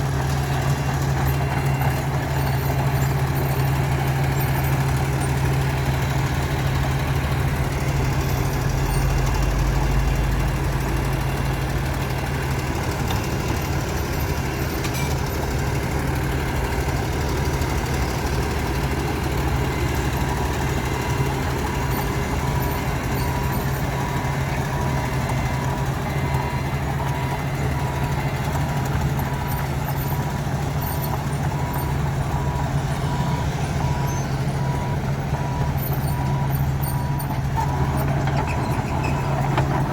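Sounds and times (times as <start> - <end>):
heavy diesel machinery engines: 0.0 - 39.9
reversing alarm beeping: 0.0 - 39.9.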